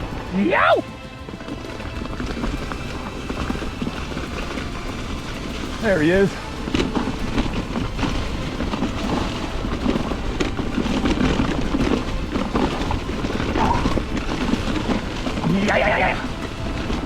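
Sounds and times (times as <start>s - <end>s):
bike tyres rumbling over dirt: 0.0s - 17.0s
wind on microphone: 1.3s - 17.0s.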